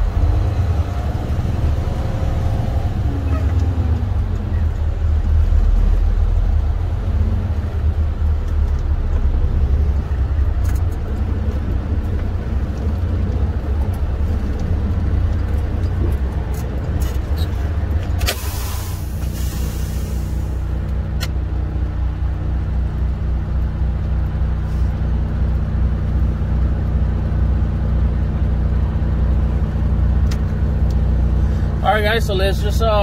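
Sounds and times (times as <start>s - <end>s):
truck diesel engine rumbling: 0.0s - 33.0s.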